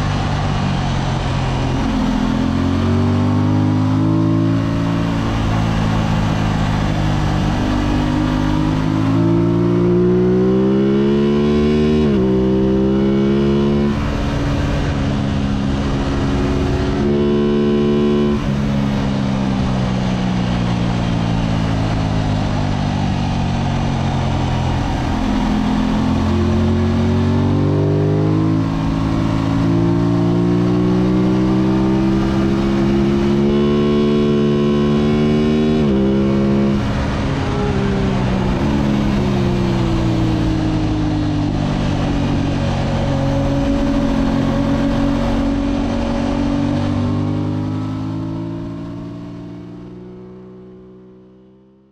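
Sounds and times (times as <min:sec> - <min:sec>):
wind rush: 0:00.0 - 0:49.2
motorcycle engine accelerating: 0:00.0 - 0:51.9.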